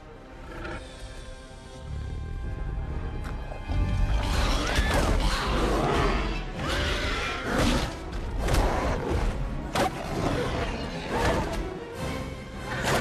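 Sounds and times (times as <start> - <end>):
dramatic music: 0.0 - 13.0.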